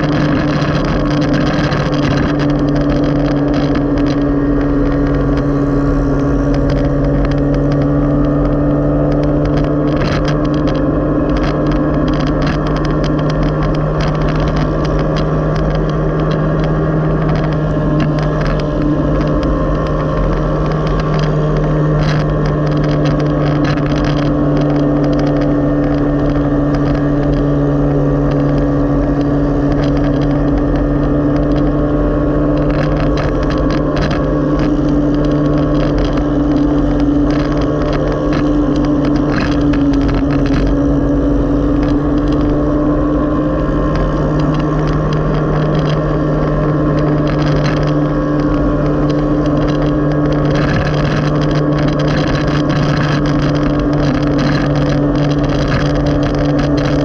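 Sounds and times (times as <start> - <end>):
clicks and rattles: 0.0 - 57.0
motorcycle engine droning: 0.0 - 57.0.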